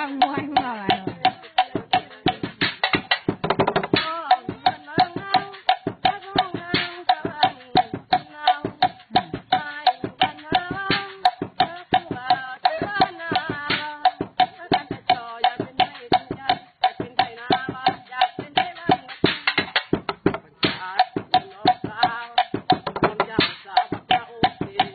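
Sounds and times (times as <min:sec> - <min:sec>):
sticks beating makeshift drums: 0:00.0 - 0:24.9.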